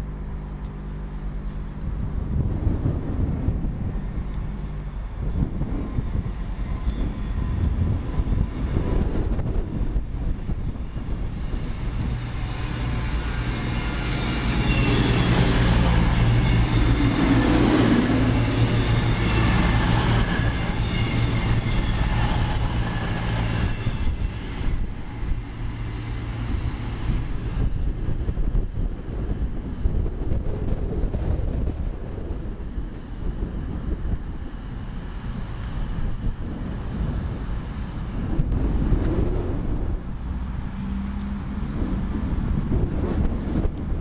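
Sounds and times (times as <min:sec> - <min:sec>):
diesel train engines droning: 0:00.0 - 0:44.0
wheel and rail rumble: 0:00.0 - 0:44.0.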